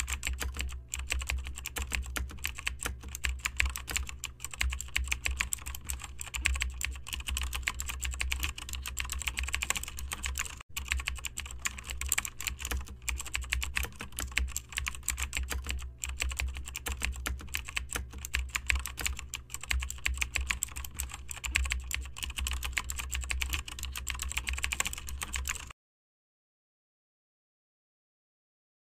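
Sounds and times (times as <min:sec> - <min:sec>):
fast typing on keyboard: 0:00.0 - 0:25.7
steady low hum: 0:00.0 - 0:25.7.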